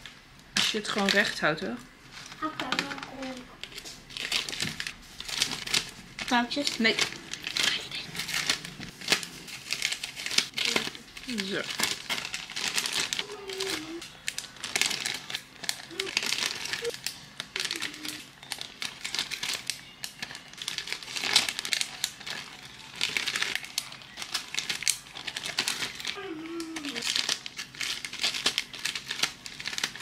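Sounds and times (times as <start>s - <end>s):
plastic packaging crinkling: 0.6s - 30.0s.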